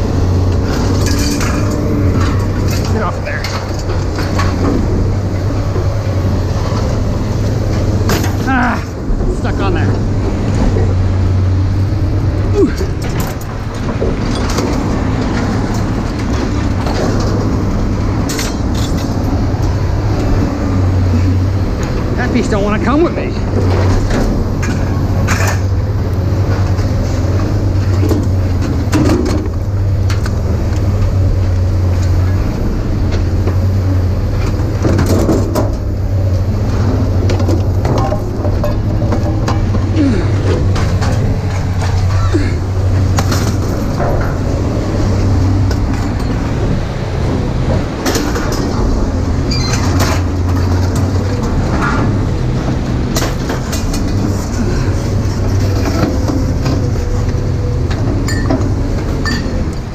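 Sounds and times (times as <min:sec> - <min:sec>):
heavy engine droning: 0:00.0 - 0:59.9
metal clanks and knocks: 0:00.0 - 0:59.9.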